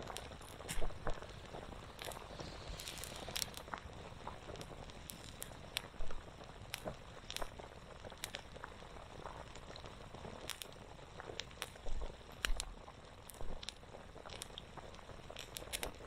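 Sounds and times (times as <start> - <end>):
campfire crackling and popping: 0.0 - 16.0
pot bubbling: 0.0 - 16.0.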